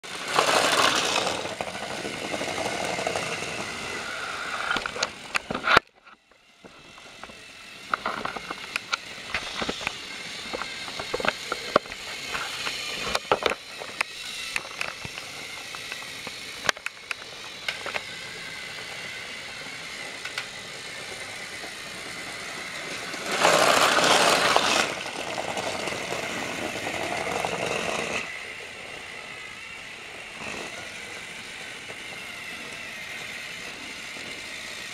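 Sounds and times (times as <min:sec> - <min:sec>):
toy train motors whirring: 0:00.0 - 0:34.9.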